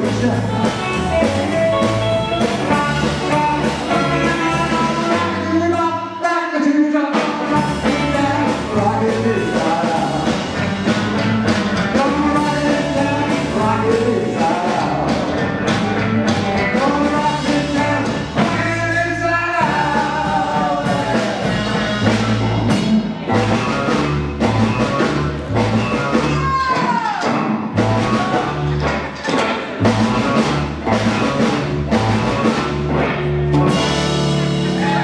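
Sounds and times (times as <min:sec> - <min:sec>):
rockabilly band playing live: 0:00.0 - 0:06.3, 0:07.1 - 0:35.0.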